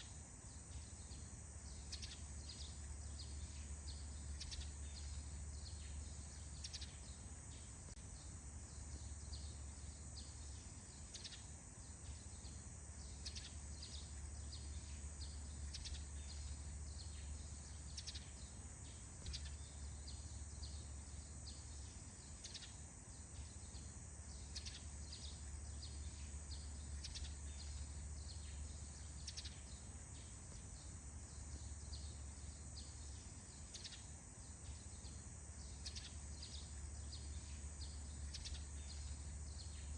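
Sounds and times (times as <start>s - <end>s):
faint high hiss: 0.0s - 39.9s
small birds chirping: 0.0s - 39.9s
steady low hum: 0.0s - 39.9s.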